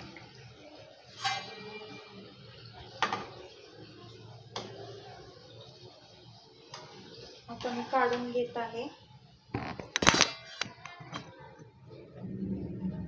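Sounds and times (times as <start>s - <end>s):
deep-frying sizzle in oil: 0.0s - 10.8s.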